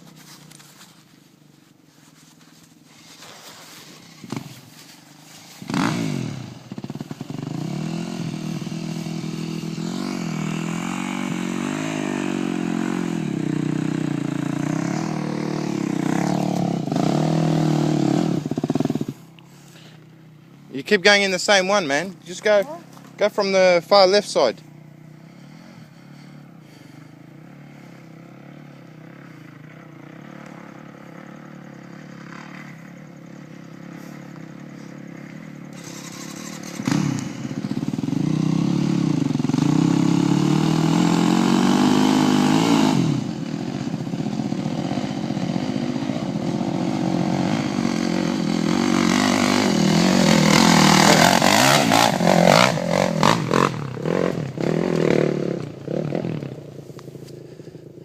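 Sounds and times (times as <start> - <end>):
dirt bike engine revving: 2.4 - 19.9, 20.7 - 58.0.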